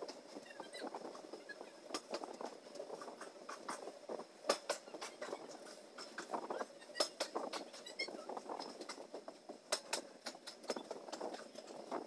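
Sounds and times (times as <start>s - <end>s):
train running rumble: 0.0s - 12.0s
wheels clacking over rail joints: 0.0s - 12.0s.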